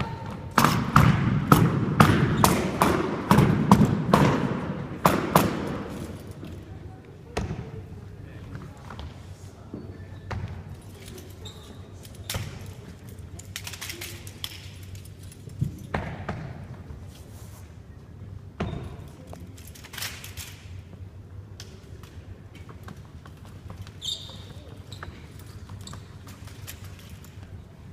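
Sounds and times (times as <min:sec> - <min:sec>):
low background noise: 0:00.0 - 0:27.9.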